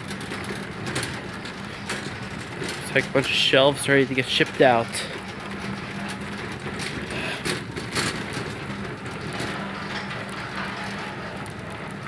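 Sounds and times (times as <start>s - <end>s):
shopping cart rattling on hard floor: 0.0s - 12.0s.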